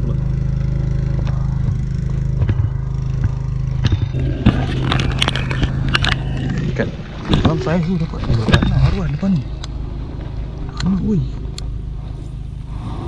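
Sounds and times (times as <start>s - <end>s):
machine engine droning: 0.0s - 13.0s.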